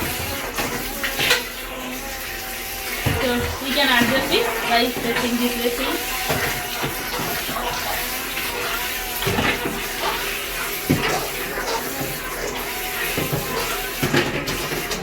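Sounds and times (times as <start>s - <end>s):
toy boat electric motors: 0.0s - 15.0s
water churning and splashing: 0.0s - 15.0s.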